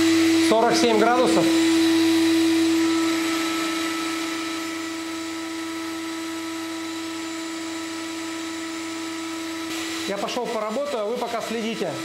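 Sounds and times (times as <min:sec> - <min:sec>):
vacuum suction motor whining: 0:00.0 - 0:12.0.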